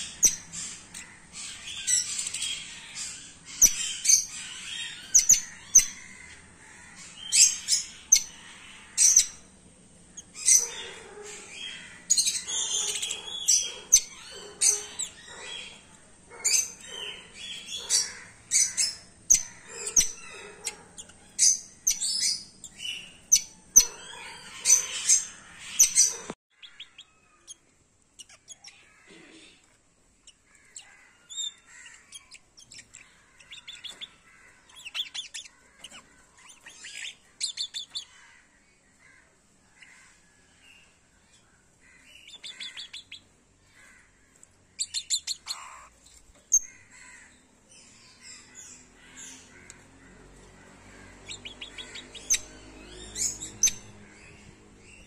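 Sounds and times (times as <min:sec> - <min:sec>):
parakeets chirping: 0:00.0 - 0:39.0, 0:39.7 - 0:55.0.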